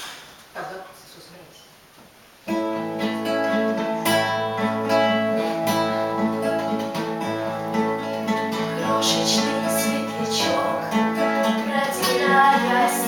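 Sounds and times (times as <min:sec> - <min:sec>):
acoustic guitar strumming: 0:02.4 - 0:13.0.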